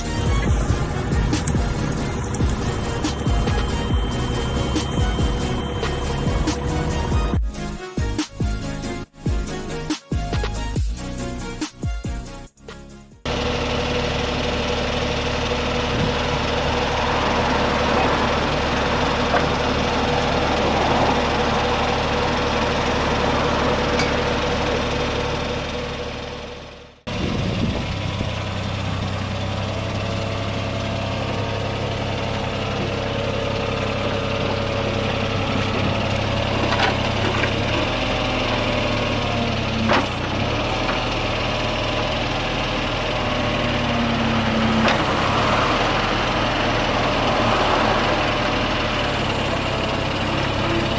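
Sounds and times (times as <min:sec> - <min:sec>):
diesel excavator engine running: 0:00.0 - 0:50.9.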